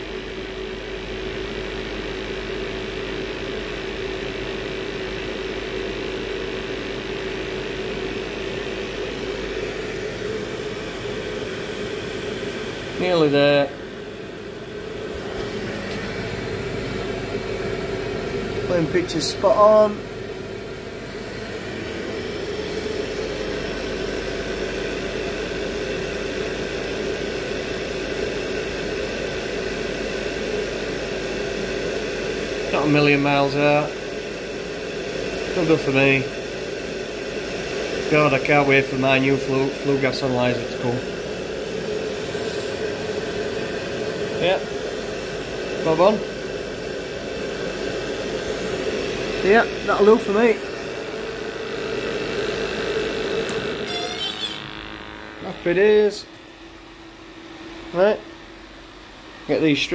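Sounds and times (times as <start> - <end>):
water heater burner humming: 0.0 - 59.9.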